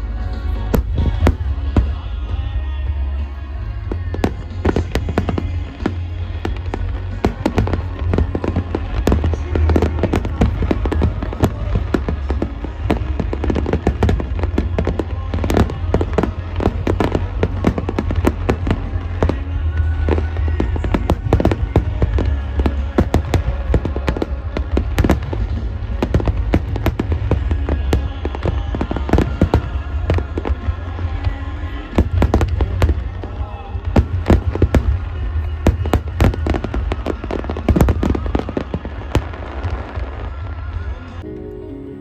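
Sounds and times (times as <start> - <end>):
fireworks booms and cracks: 0.0 - 41.3
music playing: 0.0 - 42.0.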